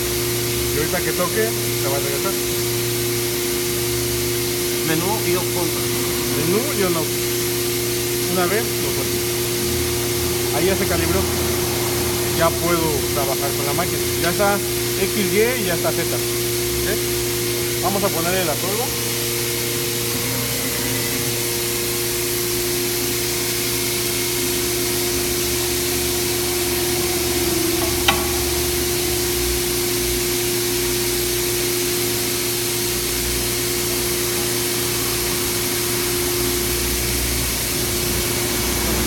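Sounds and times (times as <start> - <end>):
machine whirring and humming: 0.0 - 39.0.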